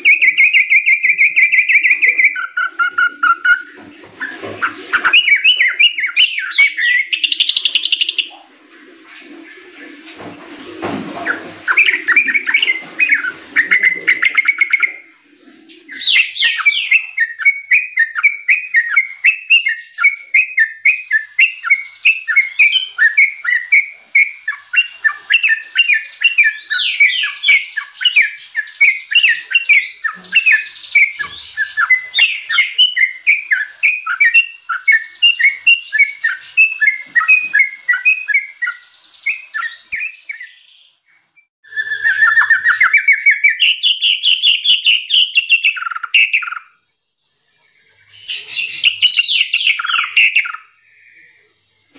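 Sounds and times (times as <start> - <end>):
bird singing chattering notes: 0.0 - 3.8, 4.6 - 8.4, 11.7 - 15.1, 15.8 - 41.0, 41.8 - 46.8, 48.0 - 51.4.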